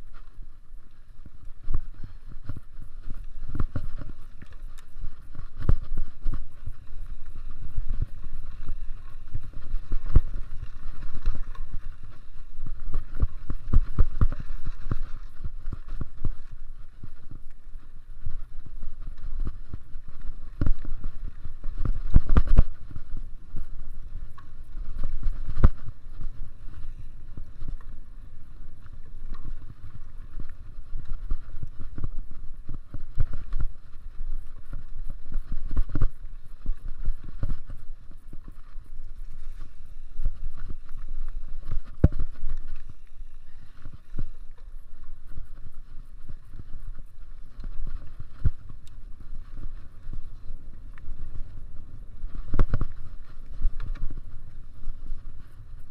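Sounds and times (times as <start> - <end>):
wind and tyres rumbling: 0.0 - 55.9
bike knocking and rattling: 0.1 - 55.6.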